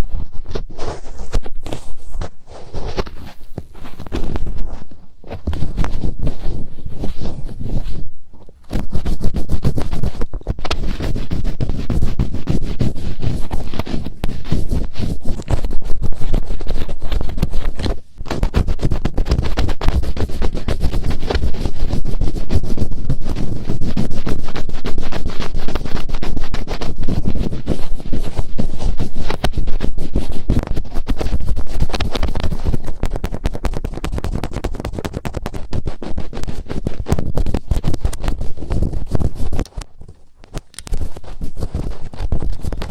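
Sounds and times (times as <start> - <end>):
fingertips scratching microphone: 0.0 - 42.9.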